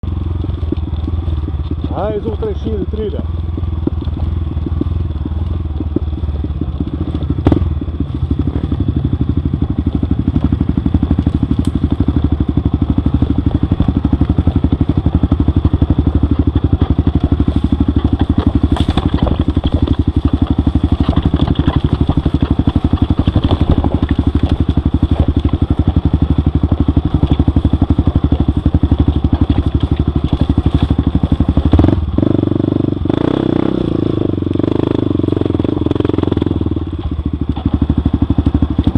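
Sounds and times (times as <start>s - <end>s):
off-road motorcycle engine: 0.0s - 38.9s.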